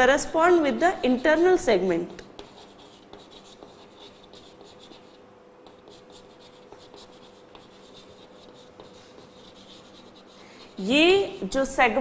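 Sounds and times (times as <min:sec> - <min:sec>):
steady hum: 0:00.0 - 0:12.0
chalk scratching on blackboard: 0:00.7 - 0:11.6.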